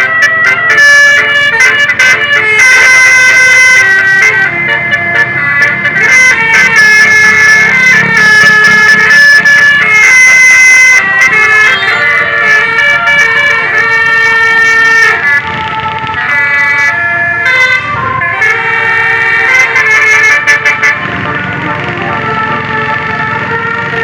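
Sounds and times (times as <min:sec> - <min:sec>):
air horns playing a rapid tune: 0:00.0 - 0:24.0
low vehicle rumble: 0:00.1 - 0:24.0.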